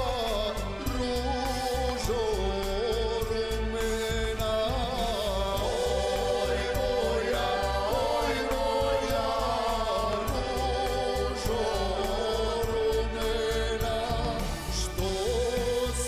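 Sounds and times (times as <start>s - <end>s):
instrumental backing with bass beat: 0.0s - 16.0s
person singing: 0.0s - 16.0s.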